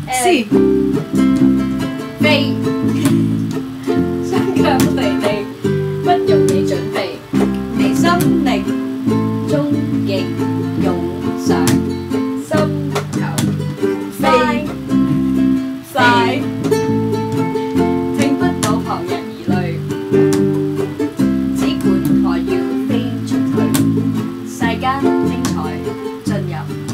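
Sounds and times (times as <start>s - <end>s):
strummed acoustic guitar: 0.0s - 26.9s.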